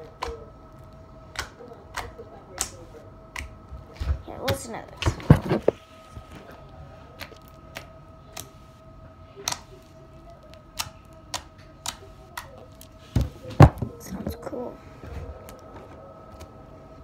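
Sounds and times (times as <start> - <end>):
steady electric hum: 0.0 - 17.0.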